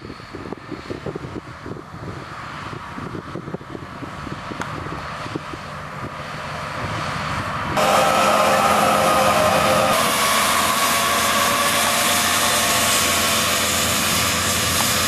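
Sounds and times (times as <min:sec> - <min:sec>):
truck engine approaching: 0:02.1 - 0:15.0.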